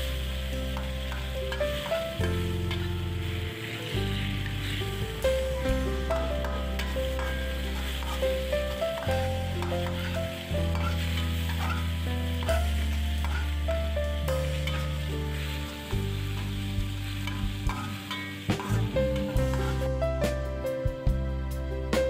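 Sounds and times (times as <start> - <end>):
metal spatula scraping a wok: 0.0 - 20.0
garlic sizzling in hot fat: 0.0 - 21.2
soft background music: 0.0 - 22.0.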